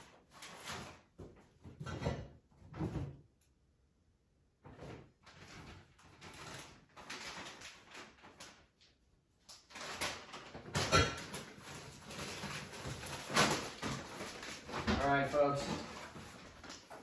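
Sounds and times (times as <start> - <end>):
rustling in cupboards: 0.0 - 3.3, 4.6 - 8.8, 9.6 - 17.0.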